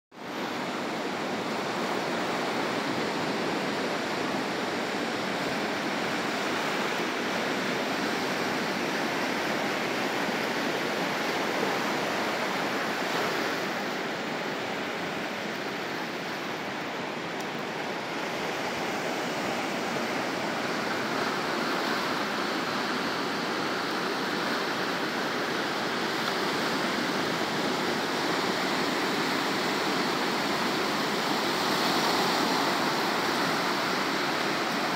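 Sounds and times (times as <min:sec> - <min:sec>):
small waves breaking on sand: 0:00.2 - 0:34.9.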